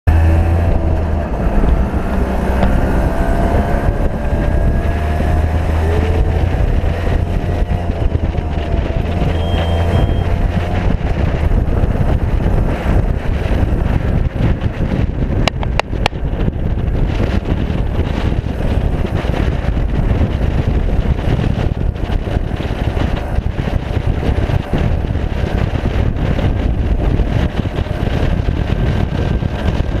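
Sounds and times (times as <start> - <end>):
auto-rickshaw engine running: 0.1 - 30.0
wind buffeting microphone: 0.1 - 30.0.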